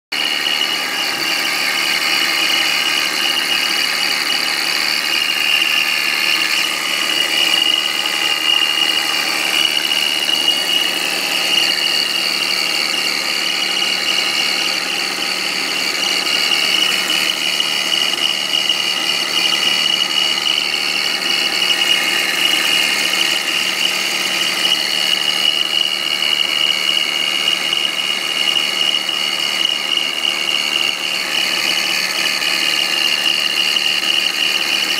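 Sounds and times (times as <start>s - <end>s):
high-pitched whistle: 0.1s - 34.9s.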